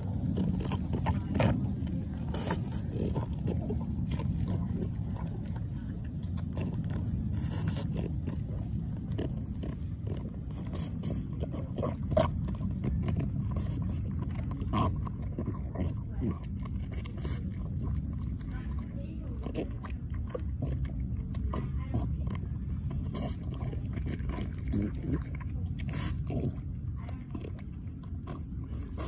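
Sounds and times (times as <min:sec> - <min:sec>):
dog crunching a cookie: 0:00.0 - 0:29.0
steady low rumble: 0:00.0 - 0:29.0.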